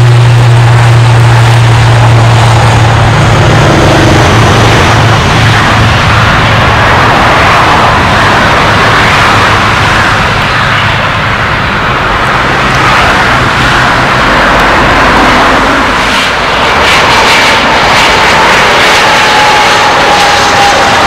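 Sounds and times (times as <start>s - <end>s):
jet turbofan whine: 0.0s - 21.0s
turboprop engines at takeoff: 0.0s - 21.0s.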